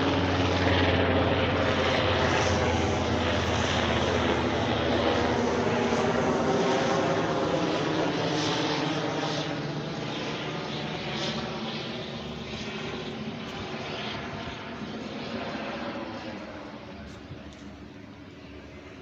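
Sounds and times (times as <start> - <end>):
helicopter engines and rotor: 0.0 - 19.0.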